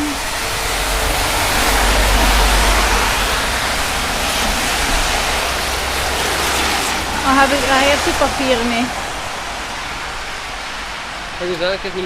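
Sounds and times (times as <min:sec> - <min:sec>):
deep rumble: 0:00.0 - 0:12.0
rain rushing: 0:00.0 - 0:12.0.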